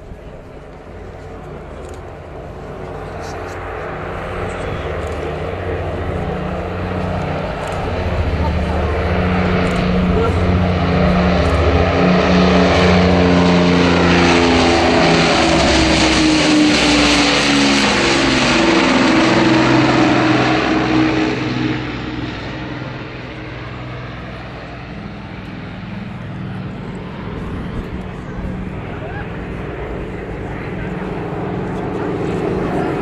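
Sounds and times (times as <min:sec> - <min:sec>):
aircraft piston engines droning: 0:00.0 - 0:33.0.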